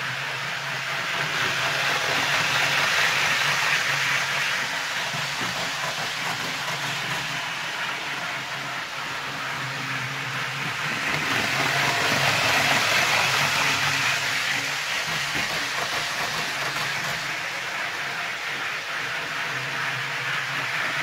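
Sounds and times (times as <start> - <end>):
model train rattling on track: 0.0 - 21.0.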